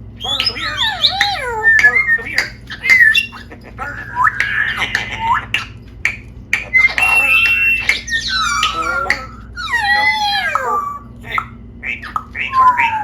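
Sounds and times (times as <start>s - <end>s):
parrot squawking and whistling: 0.1s - 13.0s.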